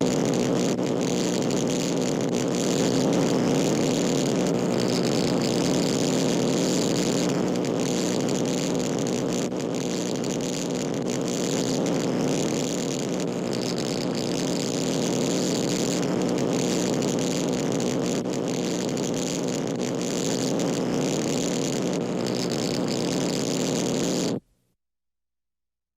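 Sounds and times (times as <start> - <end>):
welding arc crackling: 0.0 - 24.4.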